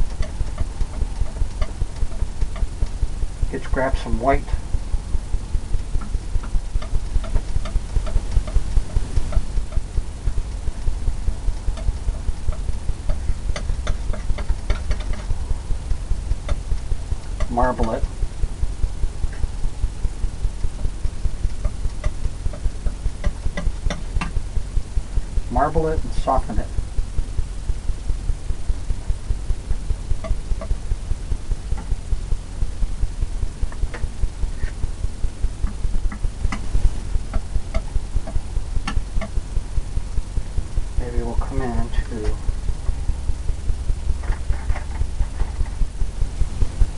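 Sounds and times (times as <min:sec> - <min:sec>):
fast-pulsing low rumble: 0:00.0 - 0:46.9
rhythmic low thumping: 0:00.0 - 0:46.9.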